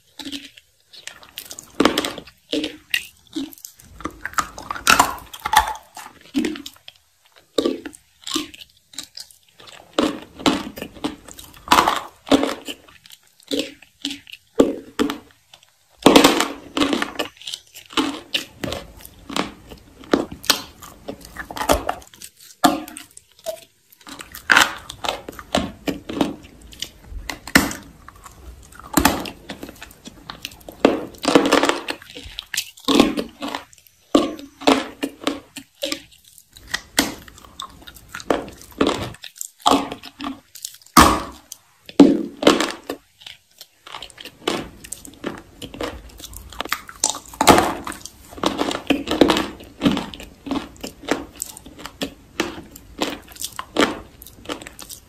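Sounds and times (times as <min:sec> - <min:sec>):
chewing and crunching: 0:00.0 - 0:55.0.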